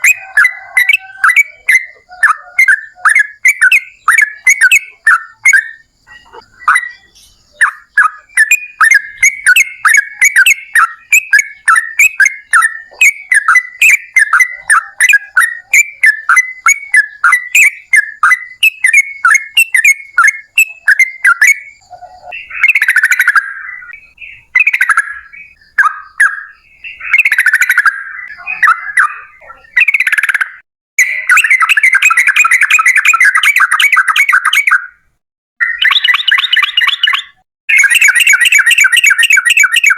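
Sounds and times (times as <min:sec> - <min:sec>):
bulbul singing: 0:00.0 - 0:35.0, 0:35.6 - 0:39.9.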